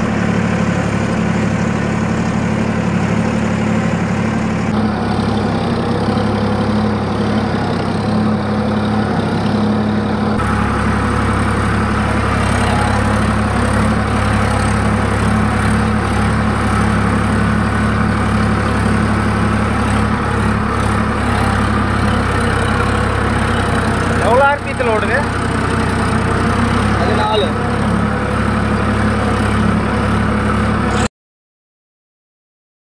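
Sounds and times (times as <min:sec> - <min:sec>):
tractor diesel engine running: 0:00.0 - 0:31.1.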